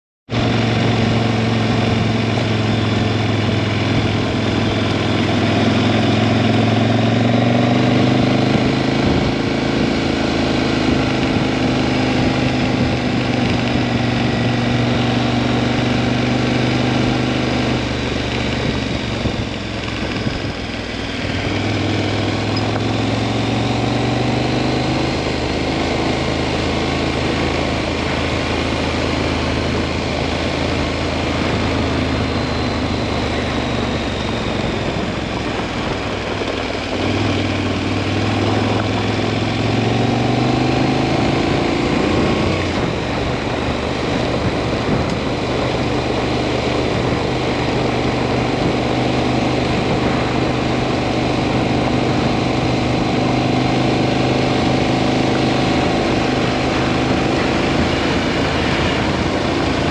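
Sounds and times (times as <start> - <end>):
motorcycle engine running: 0.3 - 59.9
road and wind noise: 0.3 - 59.9.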